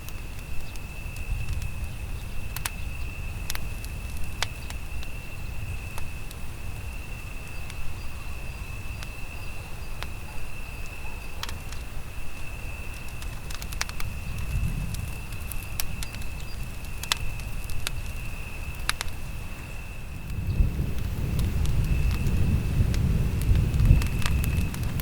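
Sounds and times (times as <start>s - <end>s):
campfire crackling and popping: 0.0s - 25.0s
high insect trill: 0.0s - 25.0s
low rumble of burning wood: 0.0s - 25.0s.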